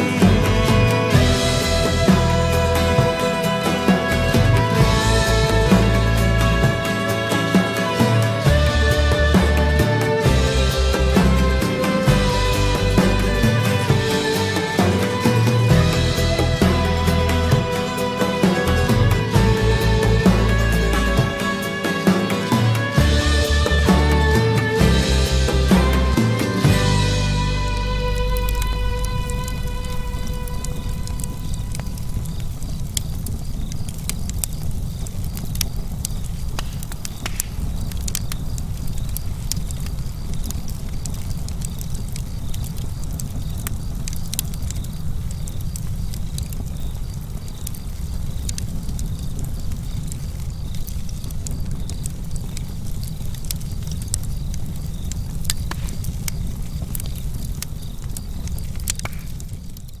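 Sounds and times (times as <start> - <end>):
fire crackling and popping: 0.0 - 60.0
low fire rumble: 0.0 - 60.0.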